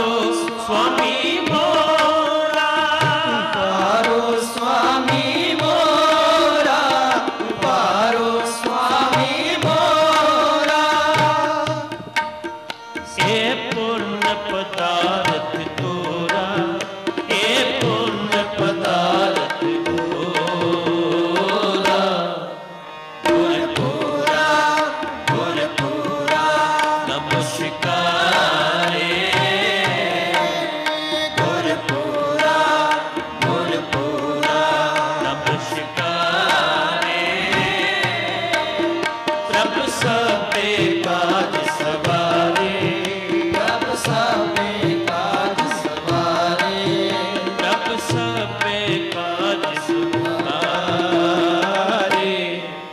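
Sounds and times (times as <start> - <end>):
male voices singing together: 0.0 - 12.3, 13.0 - 22.6, 23.2 - 52.9
harmoniums: 0.0 - 52.9
tabla: 0.0 - 52.9.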